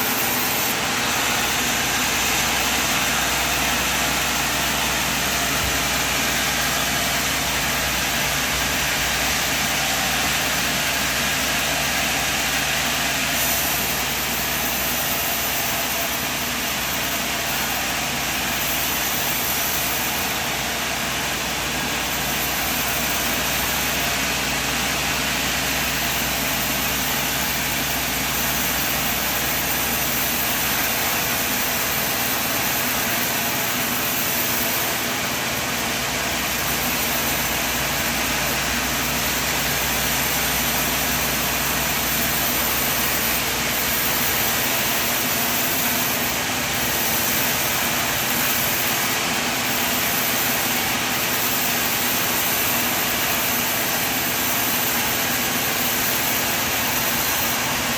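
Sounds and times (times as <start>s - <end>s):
sawmill machine engine drone: 0.0s - 57.9s.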